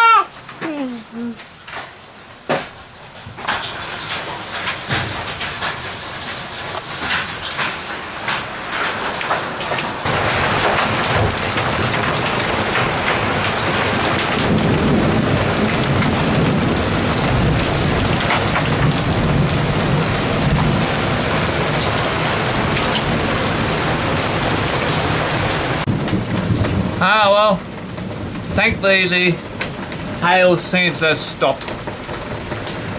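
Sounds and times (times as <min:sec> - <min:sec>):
heavy rain and hail downpour: 0:00.0 - 0:32.9
hailstones striking: 0:01.4 - 0:32.9.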